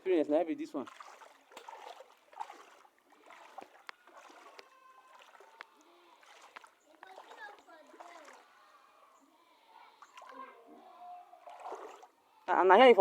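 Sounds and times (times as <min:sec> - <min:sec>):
floodwater sloshing and gurgling: 0:00.0 - 0:12.5.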